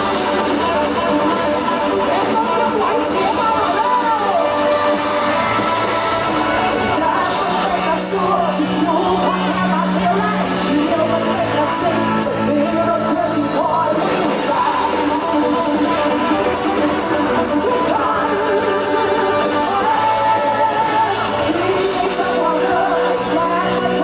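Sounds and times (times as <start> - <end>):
woman singing into microphone: 0.0 - 5.6, 6.7 - 24.0
pop band playing: 0.0 - 24.0.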